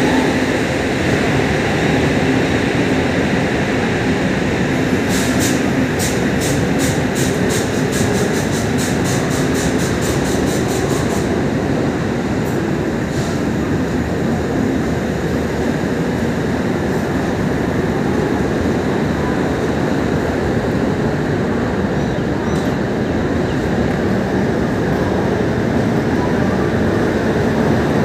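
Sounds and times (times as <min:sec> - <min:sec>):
train rumble and hum: 0:00.0 - 0:28.0.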